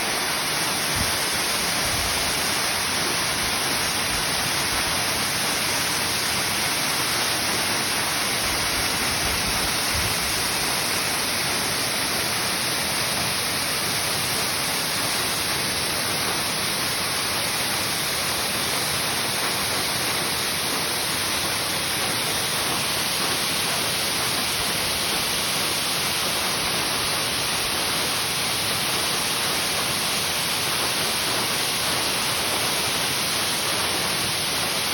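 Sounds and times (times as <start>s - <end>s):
waterfall rushing water: 0.0s - 34.9s.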